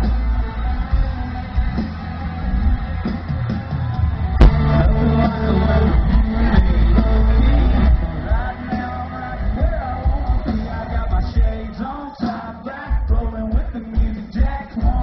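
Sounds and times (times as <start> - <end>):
live country band: 0.0 - 15.0
man singing: 0.0 - 15.0.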